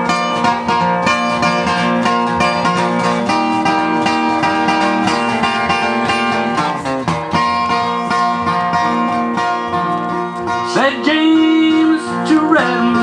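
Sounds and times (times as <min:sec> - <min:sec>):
picked acoustic guitar: 0:00.0 - 0:13.0.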